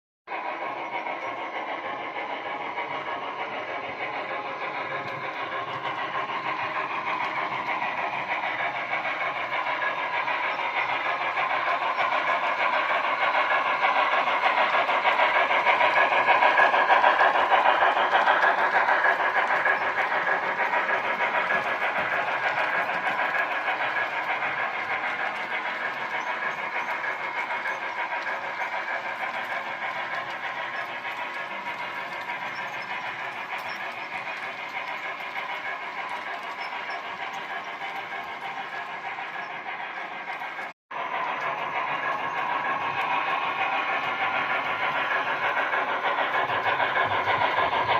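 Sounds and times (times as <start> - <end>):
train rolling on rails: 0.3 - 47.9.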